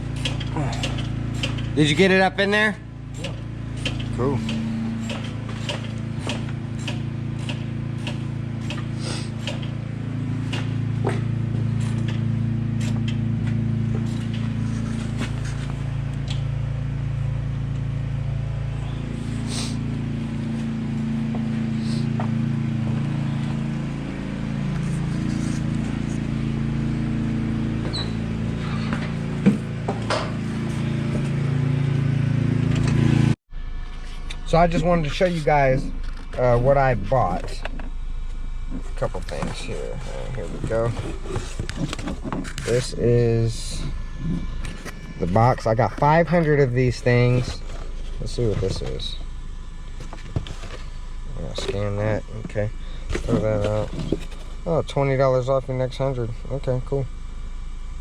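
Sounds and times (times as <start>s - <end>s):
machine drone: 0.0s - 58.0s.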